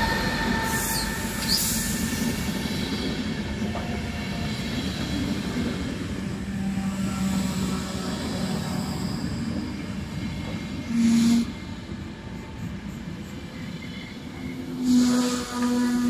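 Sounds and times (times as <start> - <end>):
train coaches rumbling on track: 0.0 - 16.0.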